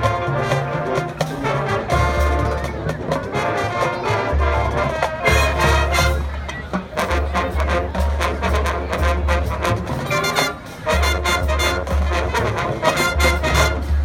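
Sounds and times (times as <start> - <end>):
brass chords: 0.0 - 14.0.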